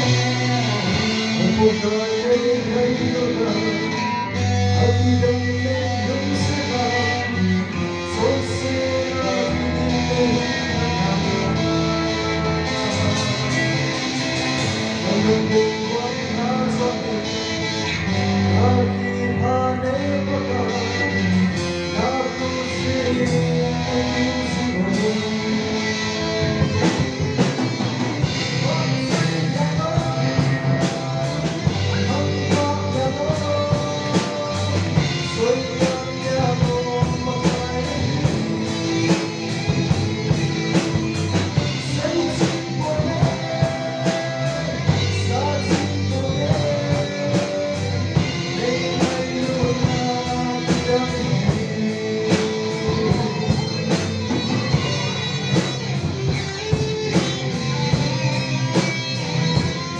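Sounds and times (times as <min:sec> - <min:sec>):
guitar: 0:00.0 - 0:59.9
person singing: 0:00.0 - 0:59.9.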